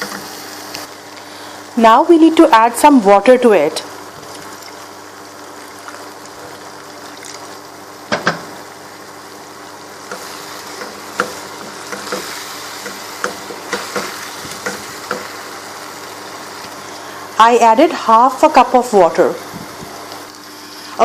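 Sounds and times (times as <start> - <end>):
water hissing in hot oil: 0.0 - 1.9, 3.6 - 21.0.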